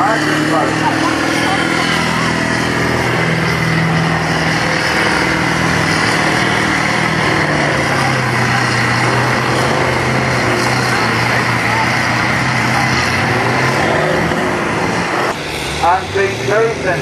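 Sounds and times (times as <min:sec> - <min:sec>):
tractor engine at full throttle: 0:00.0 - 0:17.0.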